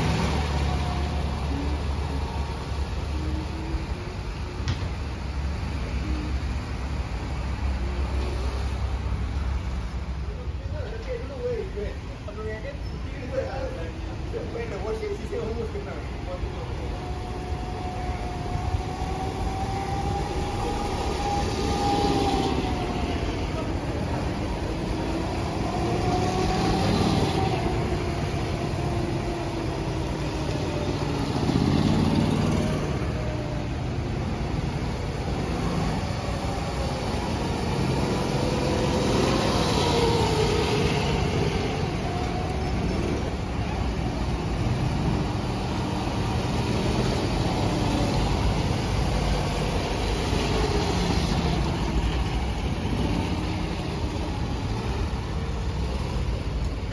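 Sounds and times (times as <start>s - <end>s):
go-kart engines passing: 0.0s - 56.9s.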